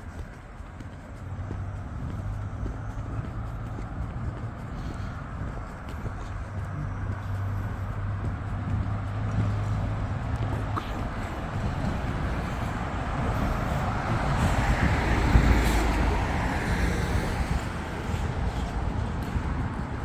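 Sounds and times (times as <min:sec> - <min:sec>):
road vehicle passing: 0:00.0 - 0:20.0
steady low hum: 0:00.4 - 0:16.6.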